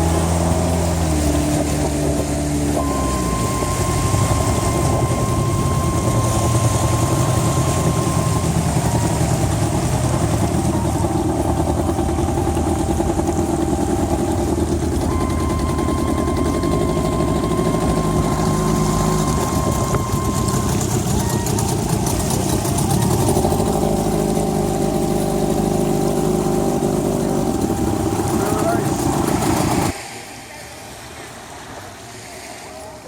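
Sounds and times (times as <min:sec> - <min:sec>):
engine running steadily: 0:00.0 - 0:33.0
thin high whine: 0:00.0 - 0:33.0.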